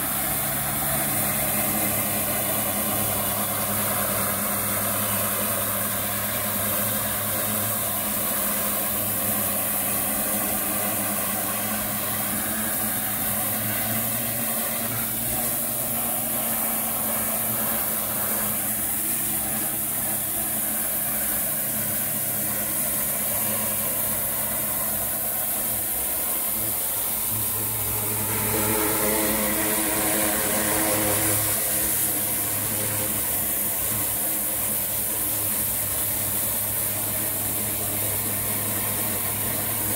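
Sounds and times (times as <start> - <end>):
pressure washer machine hum: 0.0 - 39.9
water jet spray hiss: 0.0 - 39.9.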